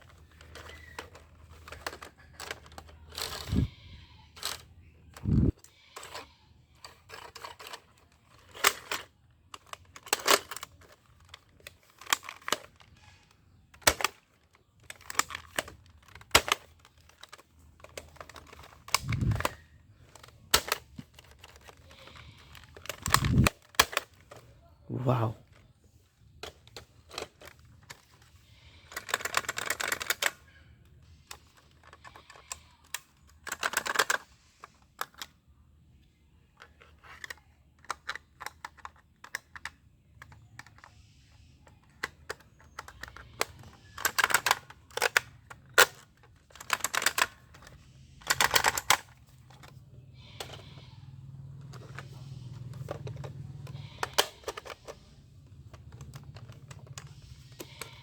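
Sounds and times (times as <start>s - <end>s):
toy pistol clicking and rattling: 0.0s - 24.5s, 26.4s - 30.6s, 31.3s - 35.3s, 36.6s - 58.0s.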